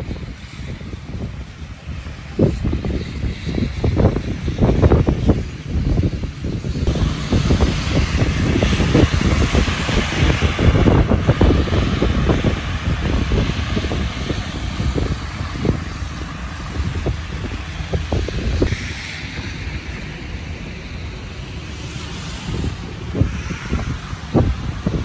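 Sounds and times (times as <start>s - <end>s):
cars driving on snowy road: 0.0s - 25.0s
wind buffeting microphone: 0.0s - 25.0s.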